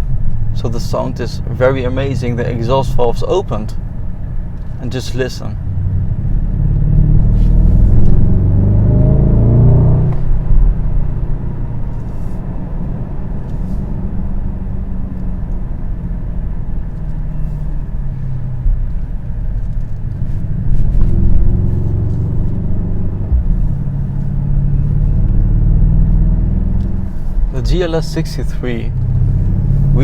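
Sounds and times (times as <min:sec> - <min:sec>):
deep exhaust rumble: 0:00.0 - 0:30.0.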